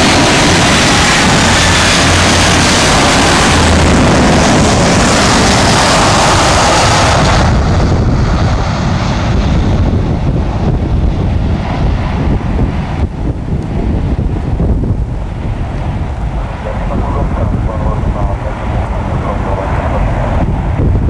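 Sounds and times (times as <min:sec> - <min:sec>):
jet airliner passing overhead: 0:00.0 - 0:21.0
wind on microphone: 0:00.0 - 0:21.0.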